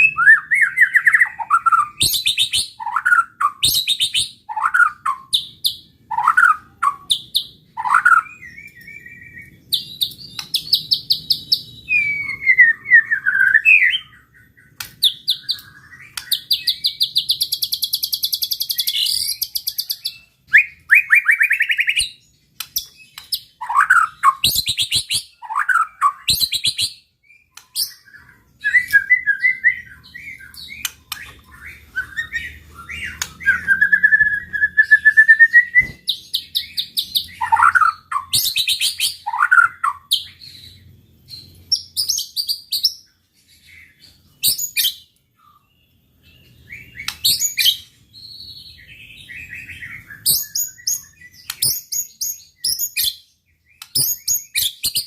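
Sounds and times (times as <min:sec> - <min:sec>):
bird song with trills and whistles: 0:00.0 - 0:55.0.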